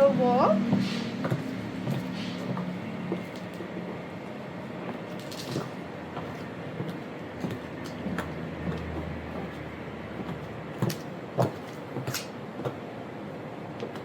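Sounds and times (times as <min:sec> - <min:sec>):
high heels clicking on hard ground: 0:00.0 - 0:12.9
steady background noise: 0:00.0 - 0:14.0.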